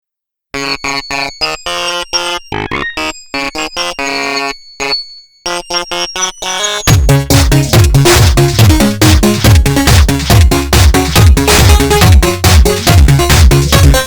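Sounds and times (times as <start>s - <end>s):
choppy synthesizer notes: 0.6s - 14.0s.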